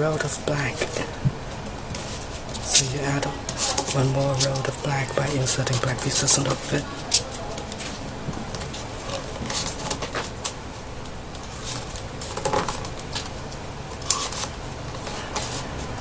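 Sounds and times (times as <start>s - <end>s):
paper rustling and crinkling: 0.2s - 16.0s.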